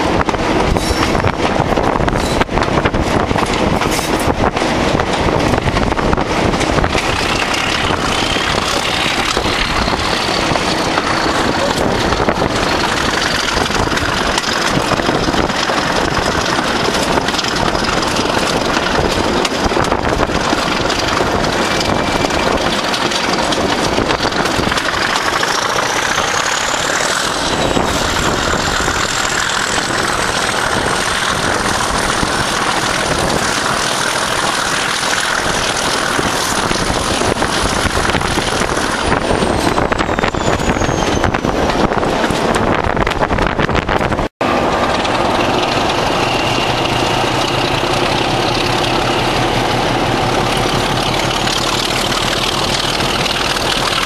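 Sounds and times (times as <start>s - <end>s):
diesel locomotives under power: 0.0s - 54.0s
wind rush: 0.0s - 54.0s.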